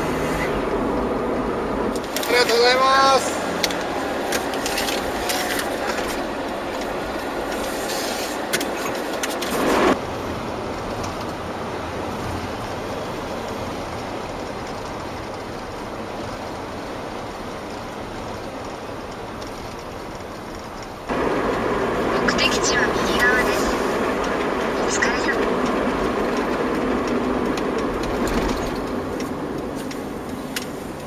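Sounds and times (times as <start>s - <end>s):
road and wind noise in car: 0.0s - 31.0s.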